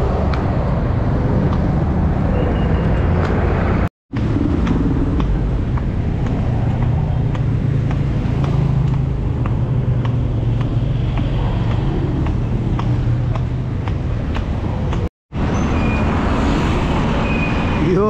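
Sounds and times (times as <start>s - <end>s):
road noise: 0.0s - 18.0s
traffic engine hum: 0.0s - 18.0s.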